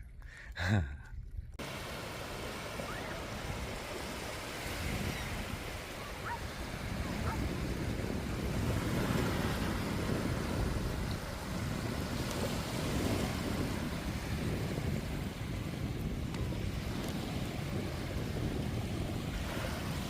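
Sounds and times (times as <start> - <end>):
wind buffeting microphone: 0.0 - 20.0
waves breaking on a beach: 1.6 - 20.0.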